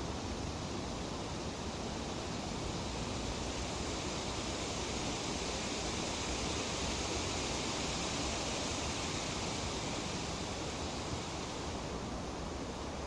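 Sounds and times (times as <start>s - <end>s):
leaves rustling in breeze: 2.1s - 13.0s.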